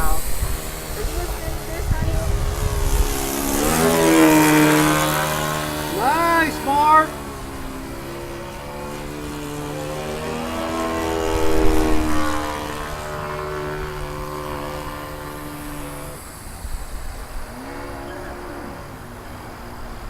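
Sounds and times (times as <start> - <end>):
model airplane engine passing: 0.0 - 20.0.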